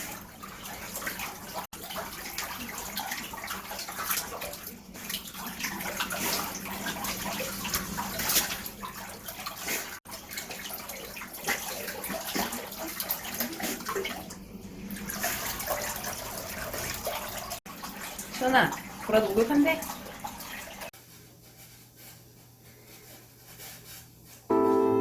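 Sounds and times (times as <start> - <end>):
water splashes: 0.0 - 21.0
running water in a bathtub: 0.0 - 24.5.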